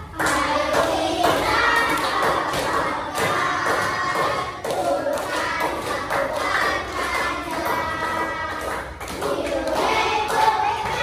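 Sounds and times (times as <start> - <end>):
children chanting together: 0.0 - 11.0
claps and thumps: 0.2 - 11.0.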